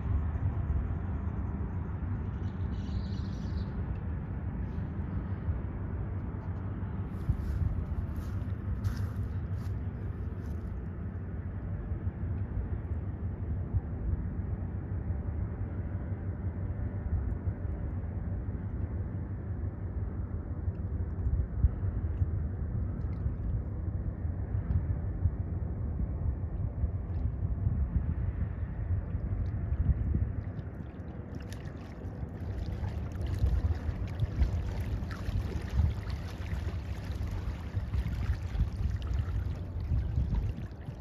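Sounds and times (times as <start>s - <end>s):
ship engine low rumble: 0.0s - 41.0s.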